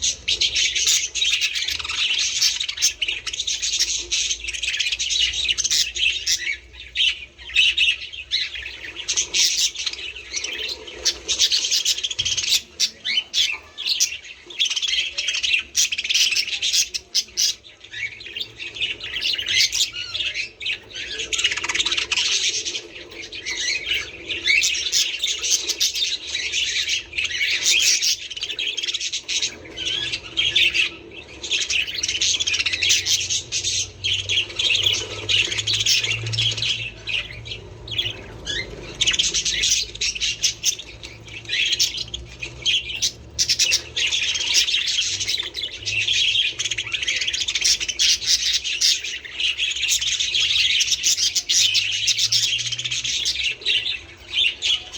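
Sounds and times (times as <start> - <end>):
budgerigars chattering and squawking: 0.0 - 54.9.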